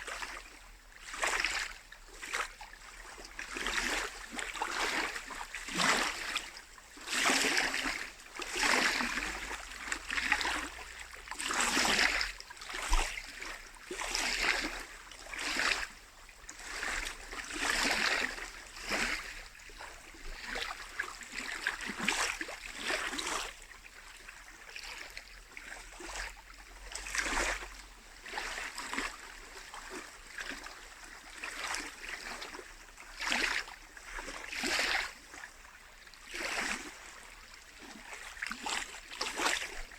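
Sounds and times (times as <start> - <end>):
waves lapping at the shore: 0.0 - 39.9.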